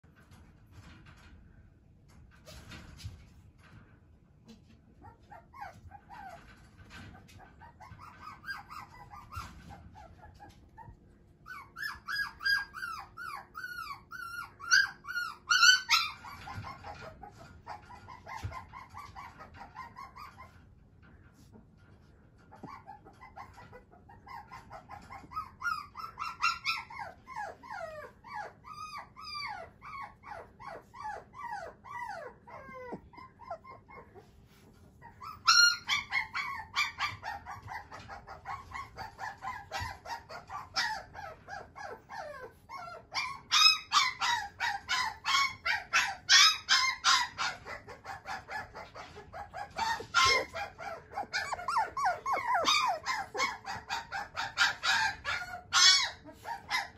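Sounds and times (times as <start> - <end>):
puppy crying and whining: 5.0 - 20.8, 22.5 - 56.9.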